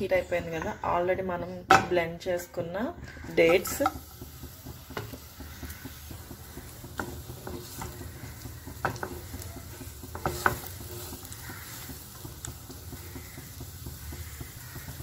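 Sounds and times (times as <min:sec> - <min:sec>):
spatula knocking pan: 0:01.6 - 0:02.4, 0:03.0 - 0:15.0
spatula scraping pan: 0:03.0 - 0:15.0.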